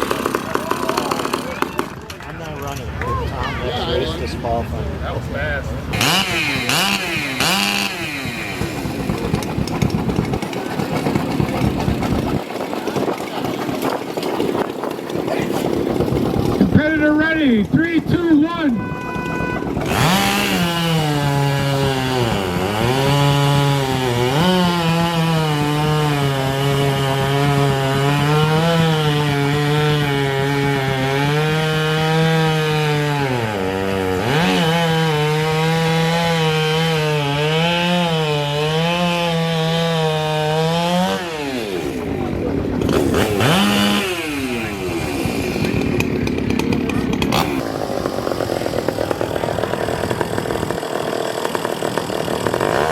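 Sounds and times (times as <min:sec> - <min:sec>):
chainsaw cutting through log: 0:00.0 - 0:02.1, 0:05.9 - 0:18.5, 0:19.3 - 0:52.9.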